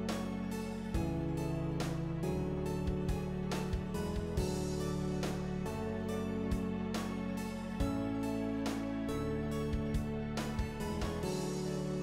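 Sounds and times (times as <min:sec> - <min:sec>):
instrumental music plucked notes: 0:00.0 - 0:12.0.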